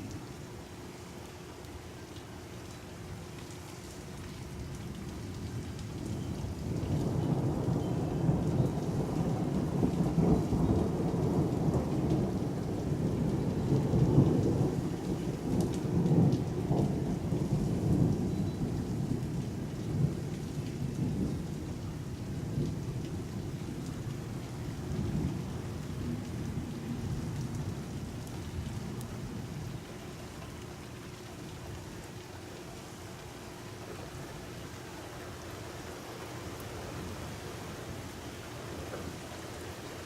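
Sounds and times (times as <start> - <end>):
falling rain: 0.0 - 40.0.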